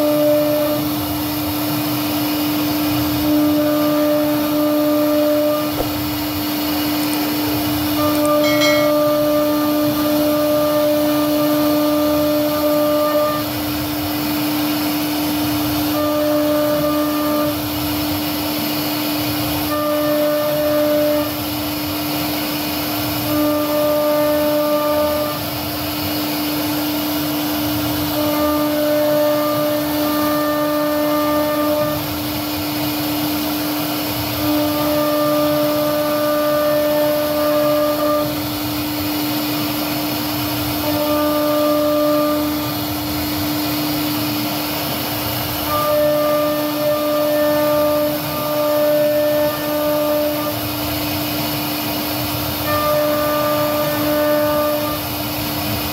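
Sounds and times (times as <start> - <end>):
cnc router spindle whine: 0.0 - 55.9.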